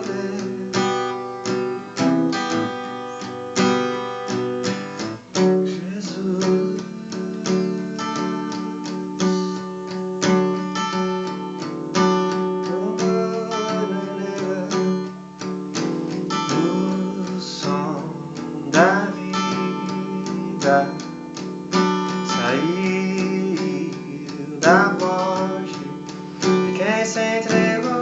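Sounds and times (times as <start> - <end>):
person singing: 0.0 - 3.4, 5.4 - 9.8, 12.4 - 28.0
strummed acoustic guitar: 0.0 - 28.0.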